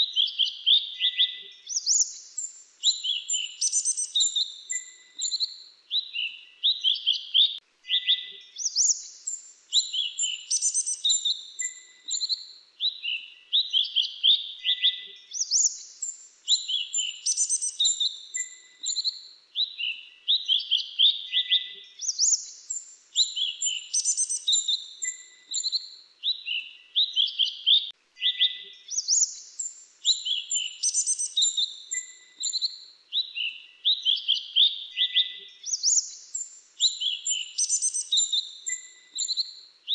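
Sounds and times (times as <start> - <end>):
bird chirps and trills: 0.2 - 39.9.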